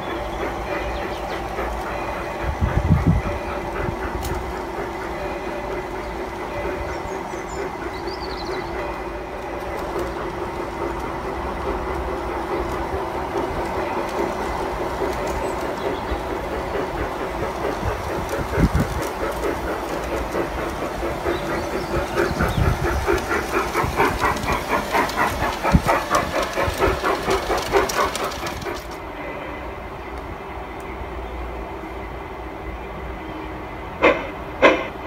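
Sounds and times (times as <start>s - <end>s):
model train hum: 0.0s - 35.0s
steam locomotive rhythmic beat: 0.0s - 35.0s.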